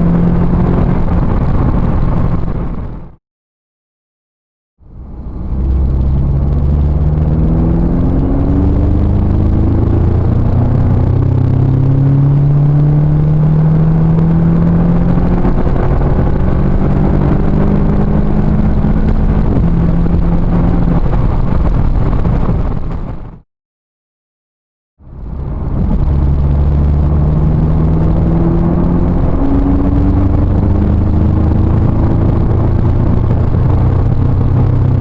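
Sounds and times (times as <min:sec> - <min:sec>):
car engine accelerating hard: 0:00.0 - 0:03.0, 0:04.9 - 0:22.7, 0:25.0 - 0:35.0.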